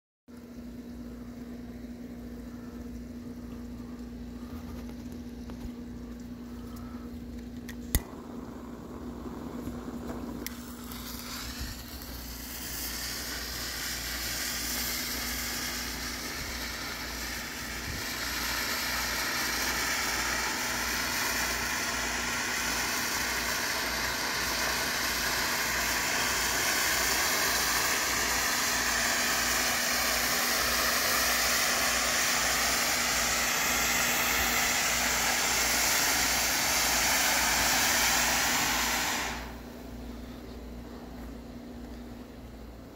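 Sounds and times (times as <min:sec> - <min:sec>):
firework fountain hissing: 0:00.4 - 0:42.9.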